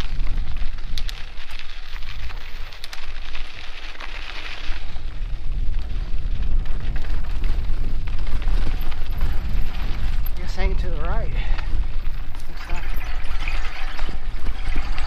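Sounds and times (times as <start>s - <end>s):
bike clicks and rattles: 0.0s - 15.0s
tyres rolling over dirt: 0.0s - 15.0s
wind buffeting microphone: 0.0s - 15.0s.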